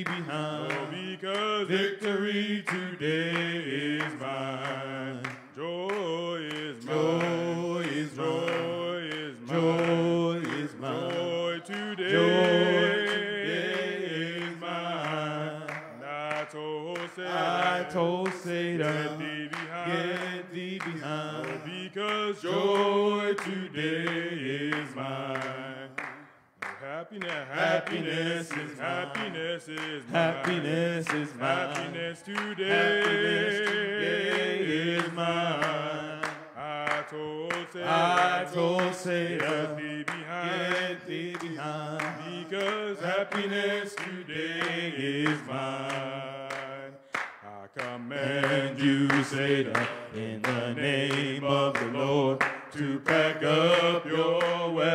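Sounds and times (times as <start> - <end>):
hand claps: 0.0 - 54.9
men singing gospel song: 0.0 - 54.9.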